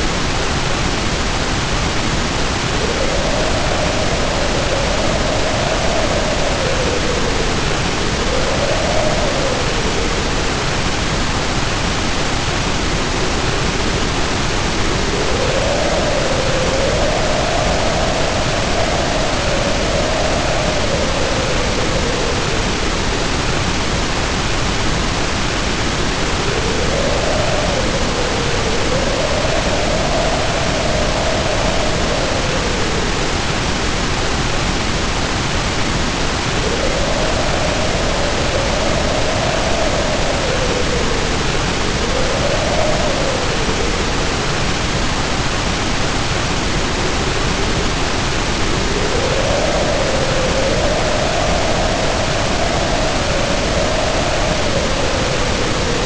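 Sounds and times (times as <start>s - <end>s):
heavy rain pouring: 0.0s - 56.0s
wind howling: 0.0s - 56.0s.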